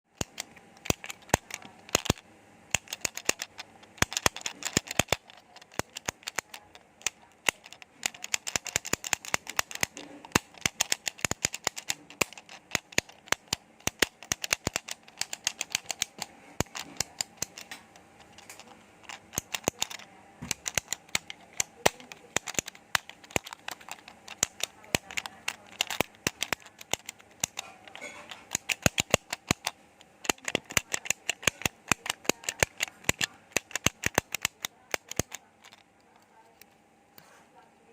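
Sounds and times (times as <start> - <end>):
sharp dry clicks: 0.2 - 36.7.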